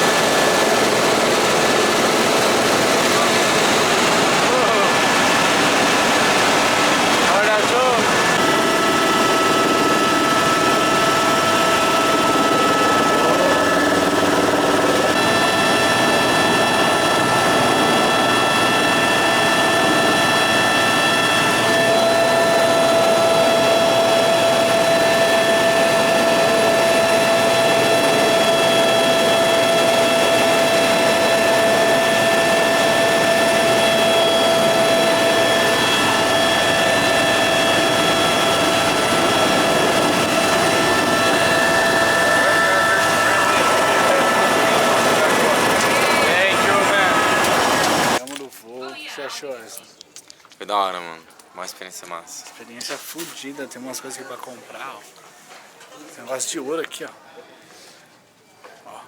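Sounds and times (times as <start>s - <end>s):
high whine: 0.0s - 48.2s
helicopter turbine and rotor noise: 0.0s - 48.3s.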